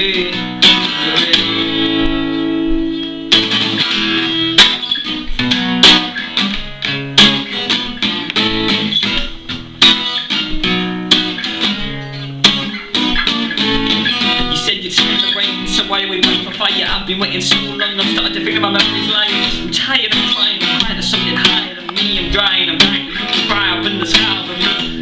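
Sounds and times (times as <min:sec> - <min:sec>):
guitar chords and plucked notes: 0:00.0 - 0:25.0.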